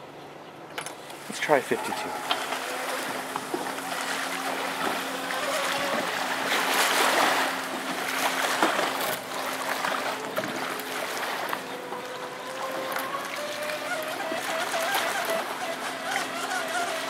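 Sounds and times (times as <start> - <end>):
rc speedboat motor and spray: 1.3 - 17.0.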